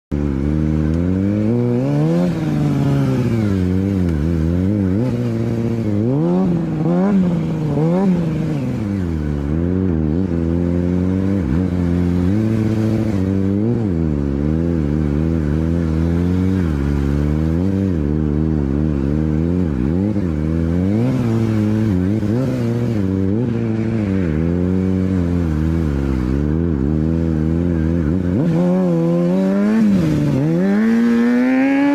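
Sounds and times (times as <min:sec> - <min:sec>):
motorcycle engine revving: 0:00.1 - 0:31.9.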